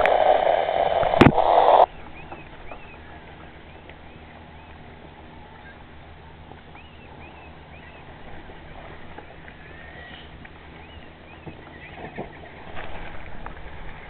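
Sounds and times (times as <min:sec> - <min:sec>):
seabird calls: 0:01.4 - 0:14.0.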